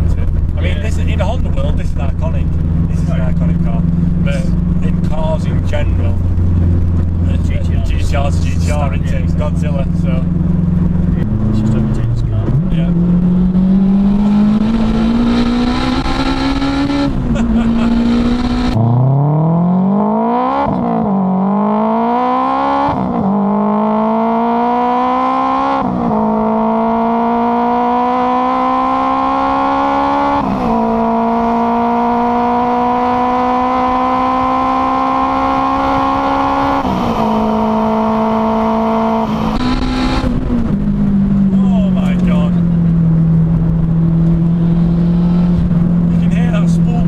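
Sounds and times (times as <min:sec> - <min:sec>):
car engine accelerating through gears: 0:00.0 - 0:47.0.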